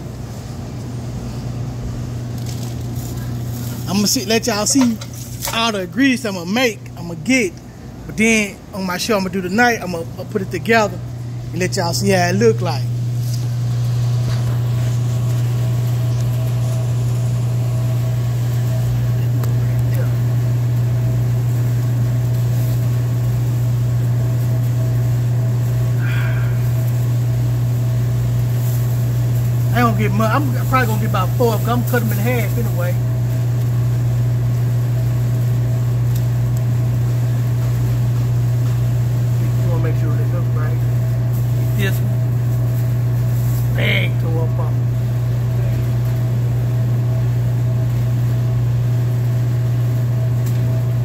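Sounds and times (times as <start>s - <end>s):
low hum: 0.0s - 51.0s.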